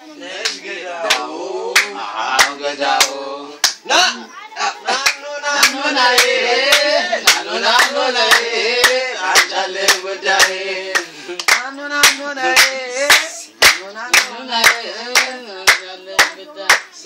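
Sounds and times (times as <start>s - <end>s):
person singing: 0.0s - 17.0s
rhythmic hand clapping: 0.2s - 3.9s, 4.9s - 17.0s.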